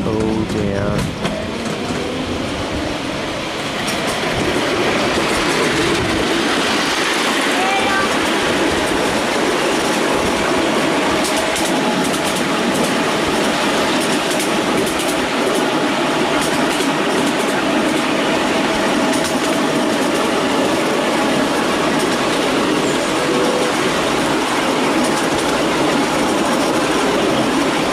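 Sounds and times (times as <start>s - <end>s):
wheels clicking over rail joints: 0.0s - 2.3s, 3.4s - 27.9s
train wheels rumbling on rails: 0.0s - 27.9s.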